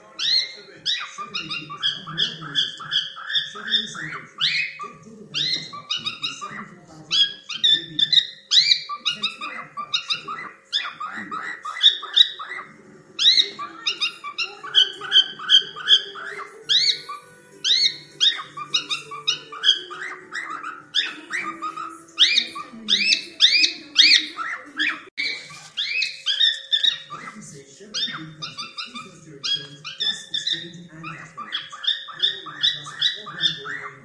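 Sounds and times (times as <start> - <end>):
cockatiel chirping: 0.0 - 34.0.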